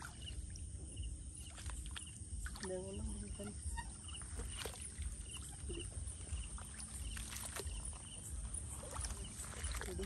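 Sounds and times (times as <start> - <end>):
steps splashing through marsh water: 0.0 - 0.7, 1.4 - 10.0.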